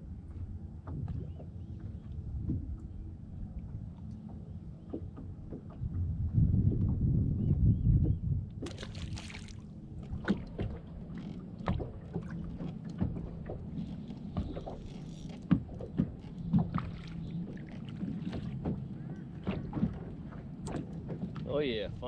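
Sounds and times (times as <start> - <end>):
steady low hum: 0.0 - 22.0
waves slapping against boat hull: 0.8 - 22.0.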